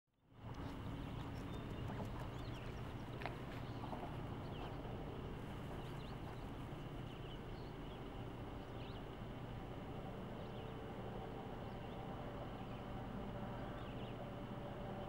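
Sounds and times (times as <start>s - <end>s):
steady low hum: 0.2s - 15.0s
small birds chirping: 0.4s - 11.0s, 11.6s - 14.8s.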